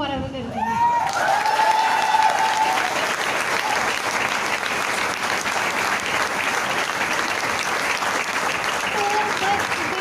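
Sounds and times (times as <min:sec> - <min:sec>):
audience clapping: 0:01.0 - 0:10.0.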